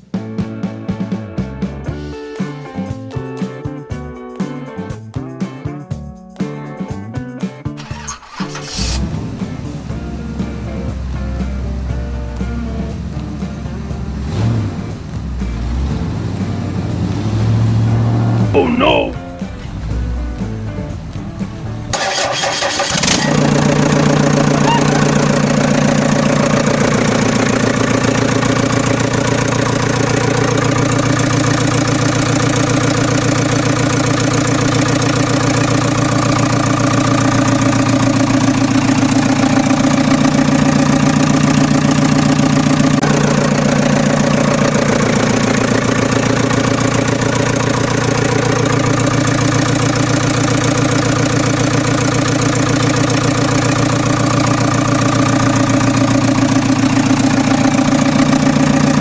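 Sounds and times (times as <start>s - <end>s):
tractor engine idling: 7.8s - 59.0s.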